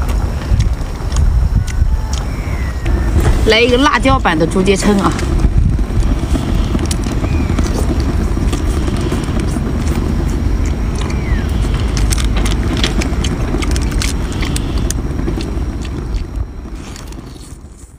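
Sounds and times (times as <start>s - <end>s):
biting and chewing clicks: 0.0s - 2.3s, 5.7s - 17.9s
wind rumble on microphone: 0.0s - 17.9s.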